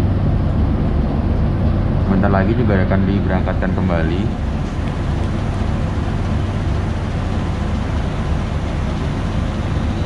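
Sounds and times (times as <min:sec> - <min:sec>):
train car hum and hiss: 0:00.0 - 0:10.0.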